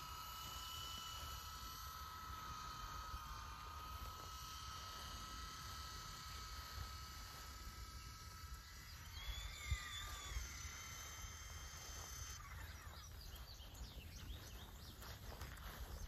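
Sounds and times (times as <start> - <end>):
high whine of small electric motor: 0.0 - 16.0.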